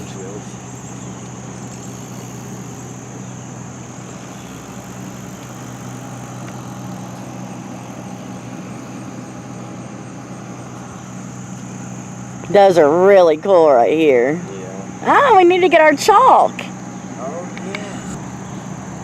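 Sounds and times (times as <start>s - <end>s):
high-pitched drone: 0.0s - 19.0s
low mechanical hum: 0.0s - 19.0s.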